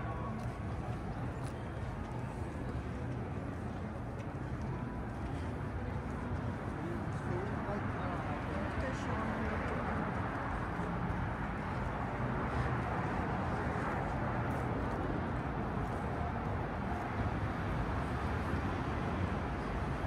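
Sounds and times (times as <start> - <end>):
crowd hubbub: 0.0 - 20.0
traffic: 0.0 - 20.0.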